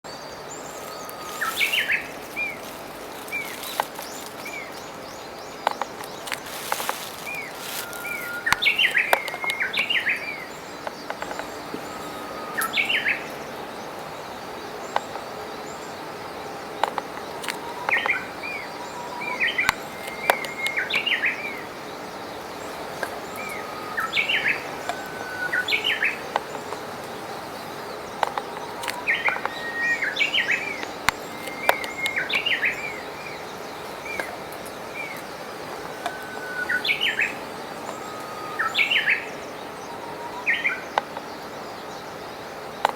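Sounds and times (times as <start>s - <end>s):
songbird singing: 0.0s - 42.9s
stream water rushing: 0.5s - 40.8s.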